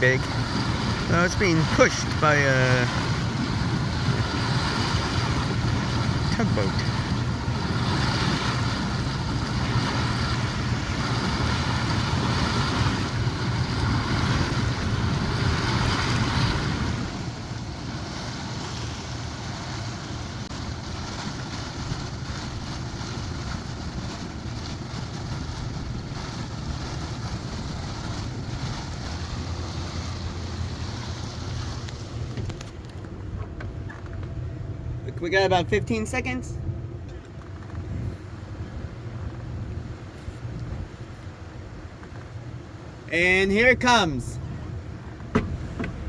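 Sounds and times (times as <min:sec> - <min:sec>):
wind buffeting microphone: 0:00.0 - 0:35.1, 0:36.5 - 0:43.0
boat engine drone: 0:00.0 - 0:46.0
water rushing past hull: 0:00.0 - 0:46.0.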